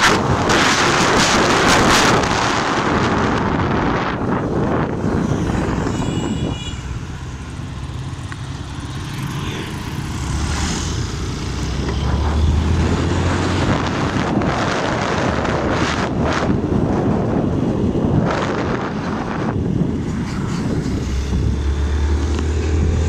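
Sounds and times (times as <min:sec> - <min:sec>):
road and traffic noise: 0:00.0 - 0:23.0
truck engine drone: 0:00.0 - 0:23.0
wind rushing over microphone: 0:00.0 - 0:23.0.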